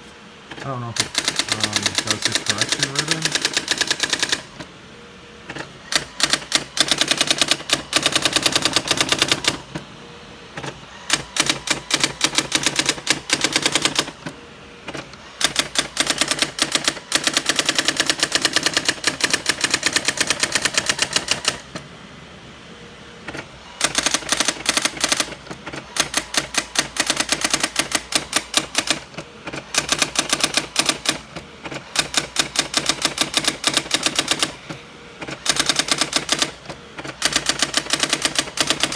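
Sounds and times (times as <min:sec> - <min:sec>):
typewriter print wheel rattling: 0:00.5 - 0:04.7, 0:05.5 - 0:09.8, 0:10.6 - 0:21.8, 0:23.3 - 0:38.9.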